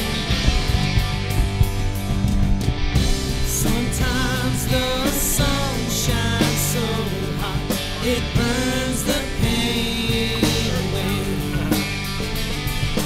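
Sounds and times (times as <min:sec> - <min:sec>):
rock song with singing: 0:00.0 - 0:13.0.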